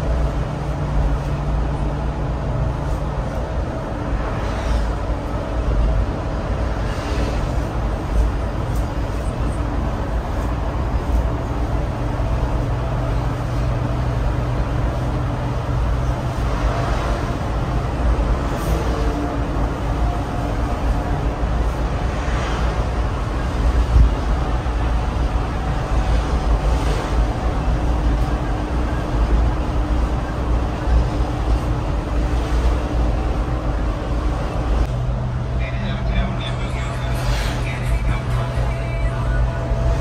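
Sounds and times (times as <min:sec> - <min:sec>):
bus engine drone: 0:00.0 - 0:40.0.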